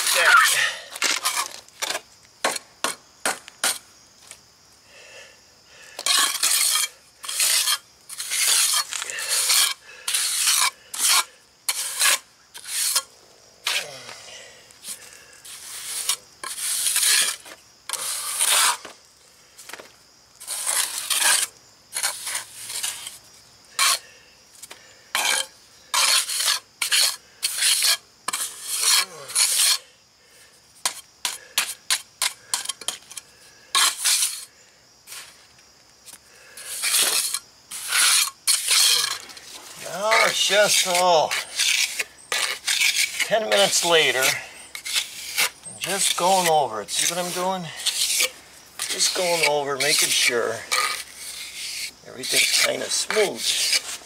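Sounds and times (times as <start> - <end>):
trowel scraping cement: 0.0 - 2.6, 6.0 - 14.0, 14.8 - 19.0, 20.4 - 24.1, 25.1 - 29.9, 30.8 - 34.5, 36.6 - 54.0.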